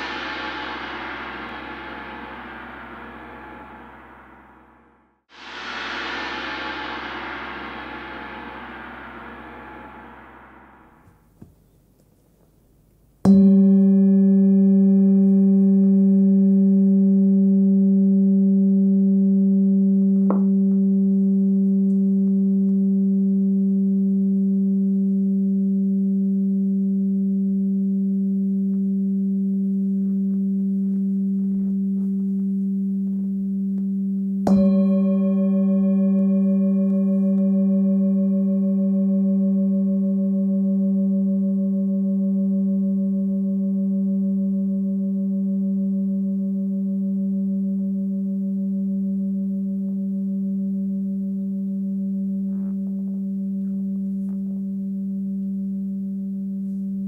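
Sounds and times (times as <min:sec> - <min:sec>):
singing bowl ringing: 0:00.0 - 0:11.2, 0:13.2 - 0:57.0.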